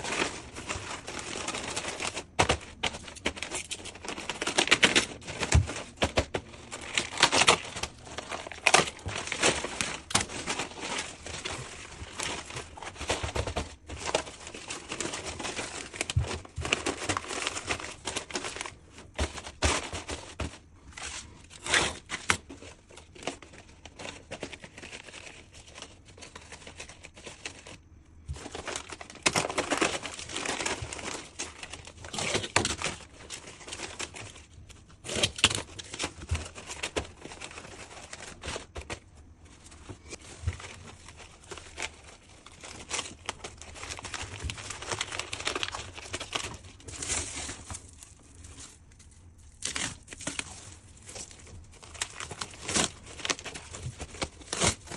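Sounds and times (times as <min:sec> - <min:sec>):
crinkling scraping and clicking: 0:00.0 - 0:54.9.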